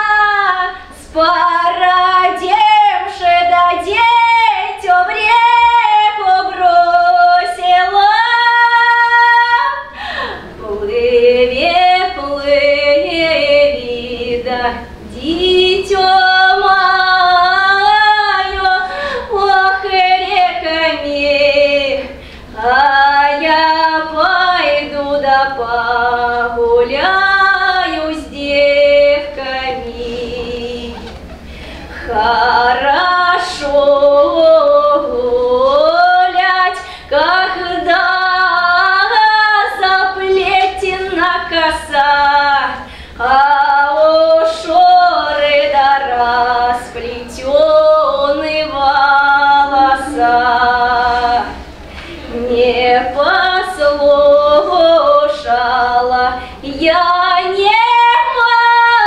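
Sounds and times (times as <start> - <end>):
woman singing unaccompanied: 0.0 - 31.1, 31.9 - 51.6, 52.2 - 59.0.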